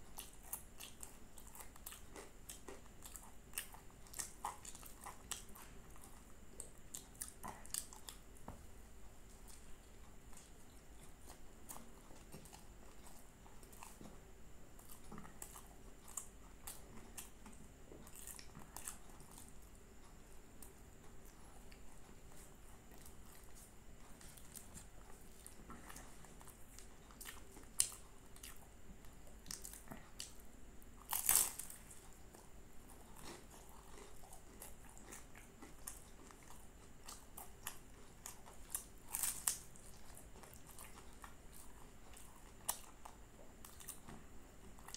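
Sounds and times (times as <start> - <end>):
crunching and chewing pastry: 0.0 - 44.9.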